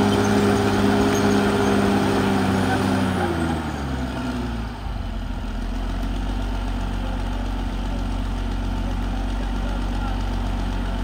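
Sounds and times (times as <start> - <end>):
bulldozer diesel engine idling: 0.0 - 11.0.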